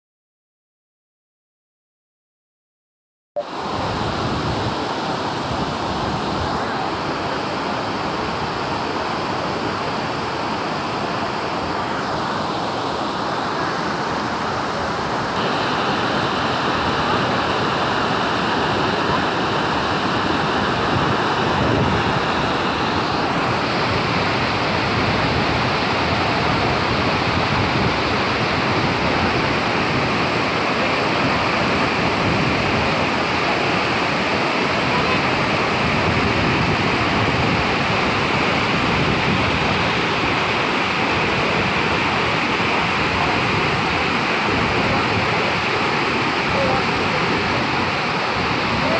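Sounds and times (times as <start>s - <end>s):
waterfall rushing over rocks: 3.4s - 48.9s.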